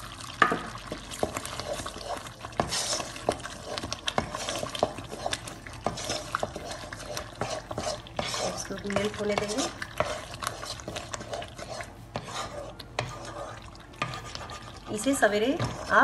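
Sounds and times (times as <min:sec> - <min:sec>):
wooden spoon stirring in a pan: 0:00.0 - 0:16.0
spoon knocking and scraping pan: 0:00.4 - 0:16.0.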